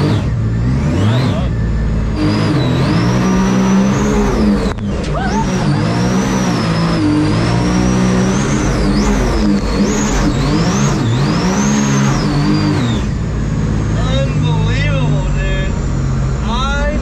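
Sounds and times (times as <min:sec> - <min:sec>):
high supercharger whine: 0:00.0 - 0:17.0
jet boat engine revving: 0:00.0 - 0:17.0.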